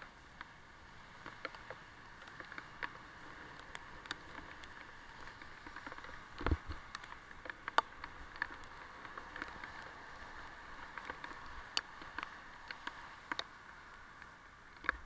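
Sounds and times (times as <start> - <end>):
bicycle ticks and clicks: 0.0 - 15.0
rain: 0.0 - 15.0.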